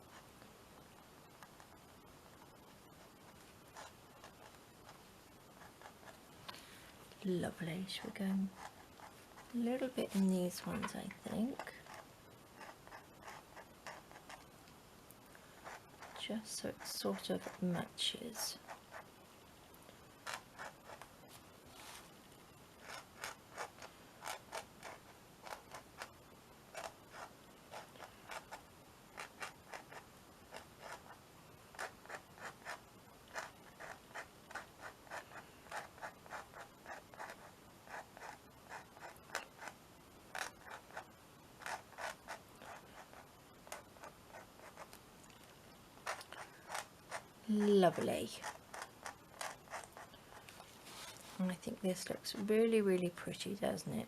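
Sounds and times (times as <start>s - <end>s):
marker scratching and tapping canvas: 0.0s - 6.6s, 7.8s - 14.5s, 15.4s - 19.1s, 20.1s - 22.1s, 22.8s - 45.4s, 46.0s - 52.6s.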